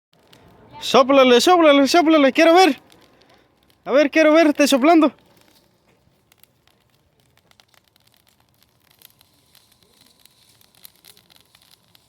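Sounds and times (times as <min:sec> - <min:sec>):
small fire crackling: 0:00.1 - 0:12.0.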